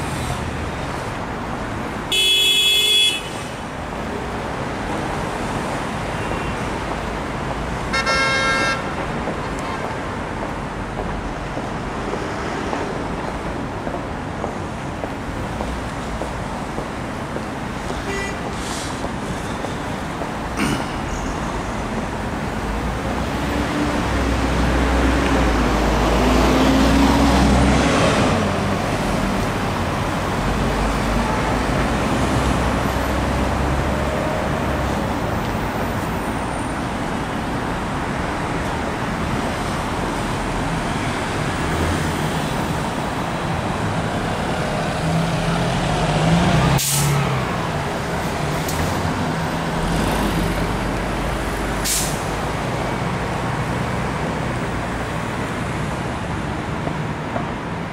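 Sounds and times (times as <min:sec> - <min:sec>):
road traffic passing: 0:00.0 - 0:57.9
heavy vehicle engine: 0:08.8 - 0:57.9.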